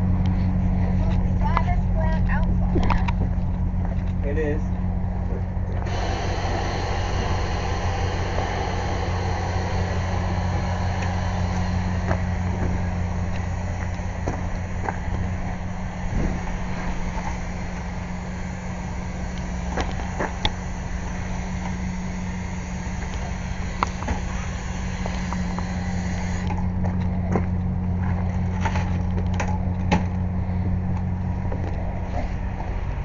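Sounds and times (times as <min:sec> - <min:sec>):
air compressor humming: 0:00.0 - 0:33.0.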